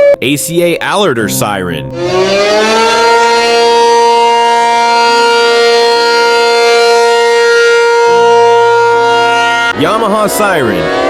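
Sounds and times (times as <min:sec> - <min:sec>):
warning siren steady tone: 0:01.8 - 0:11.0.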